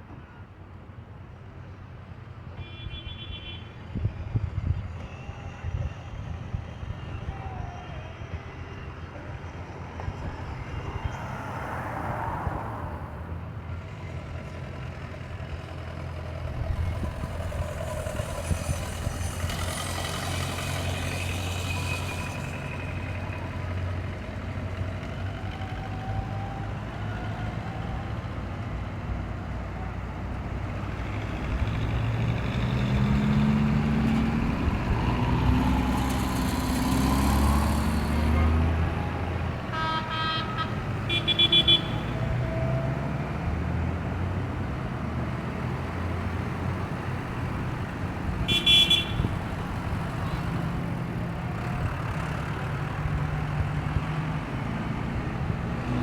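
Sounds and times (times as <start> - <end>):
tractor engines droning: 3.6 - 56.0
tractor engine passing close: 8.6 - 56.0.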